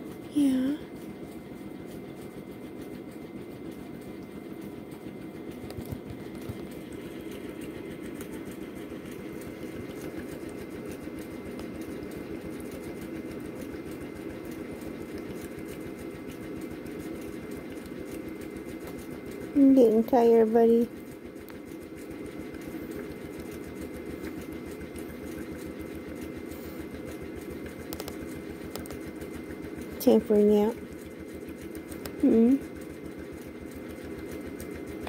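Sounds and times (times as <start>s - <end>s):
breathing machine rapid rattle: 5.5s - 20.1s, 20.7s - 35.0s.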